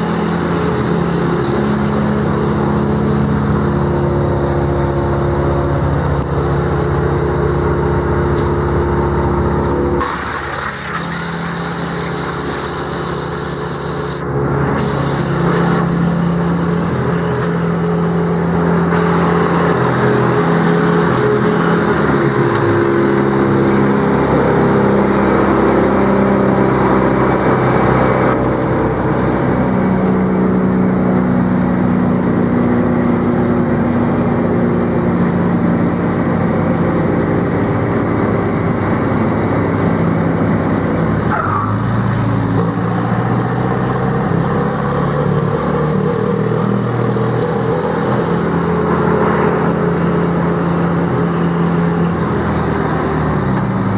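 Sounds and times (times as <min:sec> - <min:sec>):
thin high whine: 0:00.0 - 0:53.9
wood chipper running: 0:00.0 - 0:53.9.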